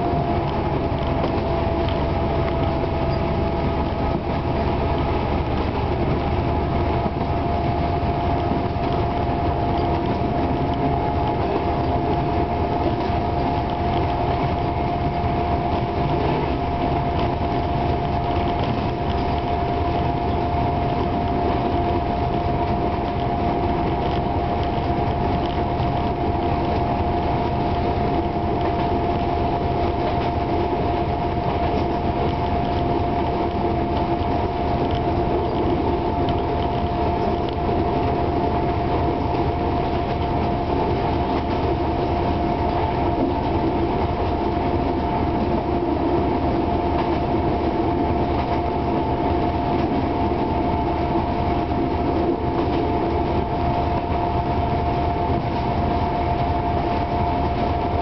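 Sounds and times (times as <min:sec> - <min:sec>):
locomotive engine rumble: 0:00.0 - 0:58.0
steady whine: 0:00.0 - 0:58.0
wheels running on track: 0:00.0 - 0:58.0.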